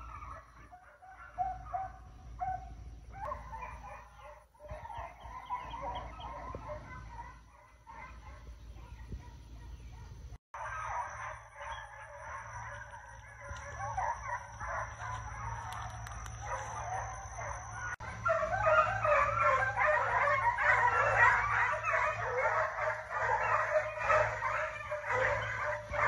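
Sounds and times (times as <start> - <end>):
hounds baying: 0.0 - 26.0.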